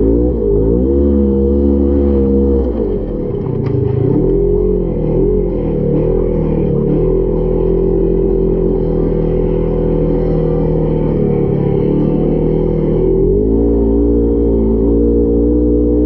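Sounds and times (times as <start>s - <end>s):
engine revving: 0.0s - 16.0s
music playing: 0.0s - 16.0s.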